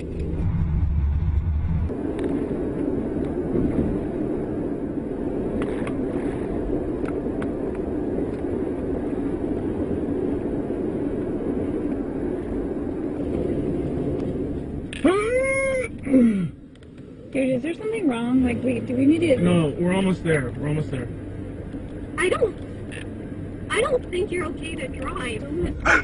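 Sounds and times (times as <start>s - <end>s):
car cabin road and engine noise: 0.0s - 26.0s.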